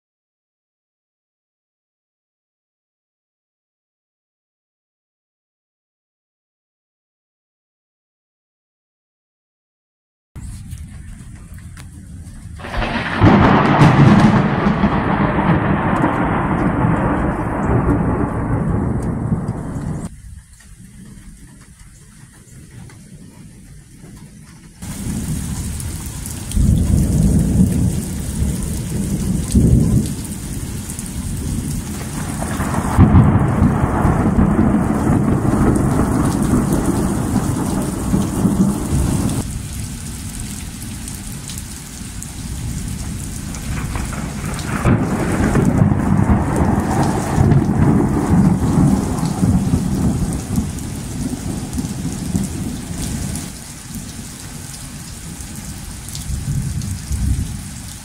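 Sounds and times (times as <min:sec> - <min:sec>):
steady rain: 0:10.4 - 0:58.0
thunder rumbling: 0:10.4 - 0:58.0.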